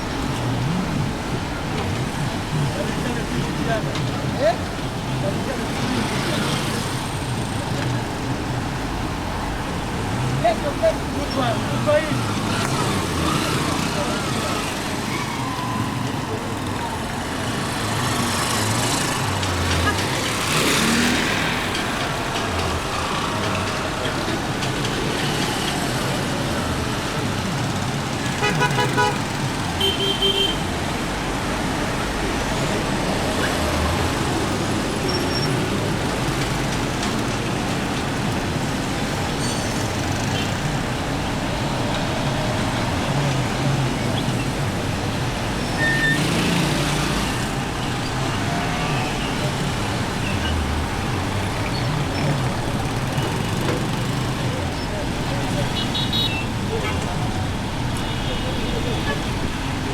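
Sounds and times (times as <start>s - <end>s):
motorcycle road and wind noise: 0.0s - 59.9s.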